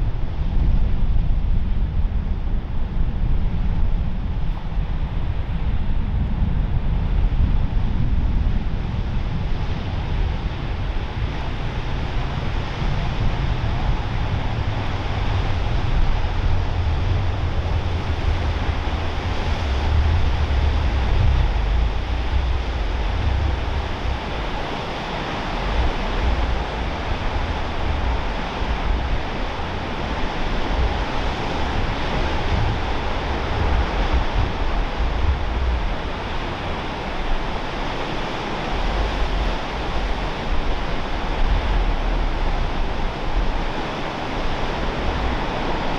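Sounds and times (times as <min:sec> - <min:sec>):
wind buffeting microphone: 0:00.0 - 0:45.9
ocean surf: 0:08.9 - 0:45.9.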